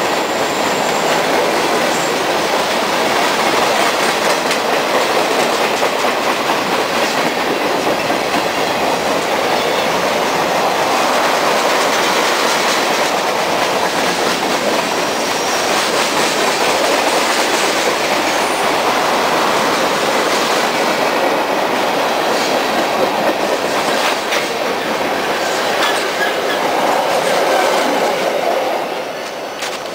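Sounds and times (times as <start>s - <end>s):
steel wheels on rail: 0.0s - 29.9s.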